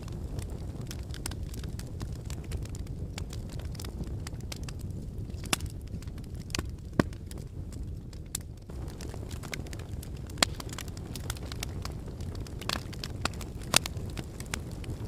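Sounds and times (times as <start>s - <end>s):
logs crackling in a fireplace: 0.0s - 15.0s.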